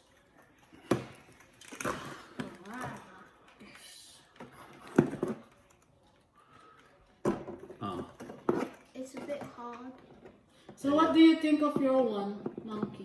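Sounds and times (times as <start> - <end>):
plastic toy clicks and knocks: 0.6 - 13.0.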